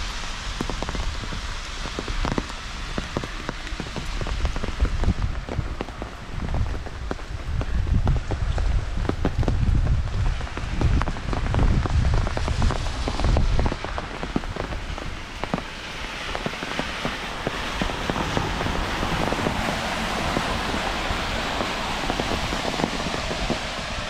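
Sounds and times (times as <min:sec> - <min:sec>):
heavy rain: 0:00.0 - 0:24.0
low rumble: 0:00.0 - 0:24.0.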